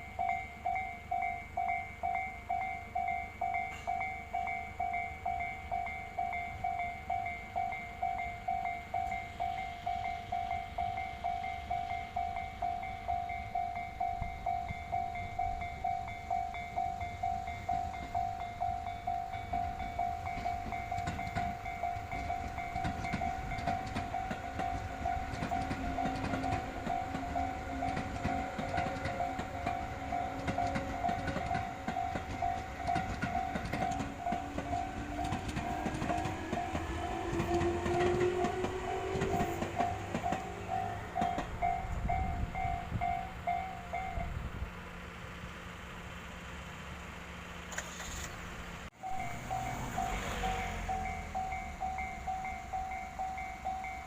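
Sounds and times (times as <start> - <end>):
level-crossing alarm ringing: 0.0 - 44.3, 49.0 - 54.0
train wheels clacking on rails: 0.0 - 44.4, 49.0 - 54.0
train motor whine: 0.2 - 54.0.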